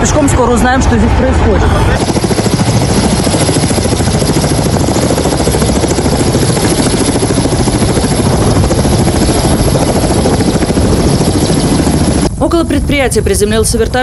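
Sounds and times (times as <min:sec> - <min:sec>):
helicopter rotor and turbine noise: 0:00.0 - 0:14.0
wind buffeting microphone: 0:00.0 - 0:14.0.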